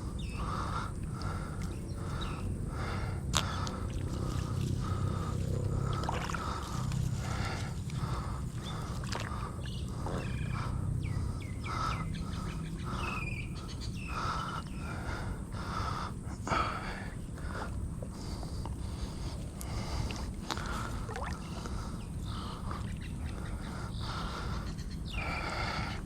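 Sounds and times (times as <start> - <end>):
birds chirping: 0.0 - 26.0
low outdoor rumble: 0.0 - 26.0.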